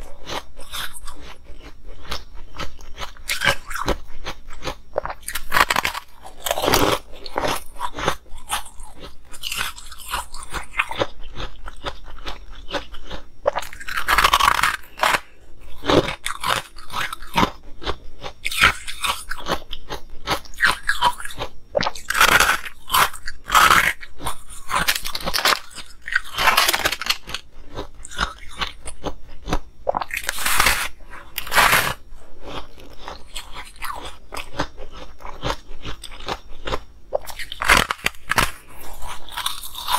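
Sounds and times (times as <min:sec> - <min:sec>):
chewing and crunching ice: 0:00.0 - 0:39.9.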